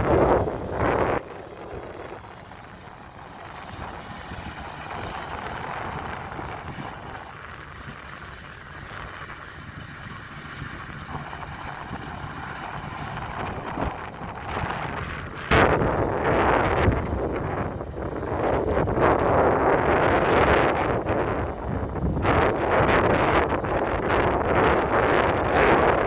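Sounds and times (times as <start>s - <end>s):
combine harvester running: 0.0s - 25.1s.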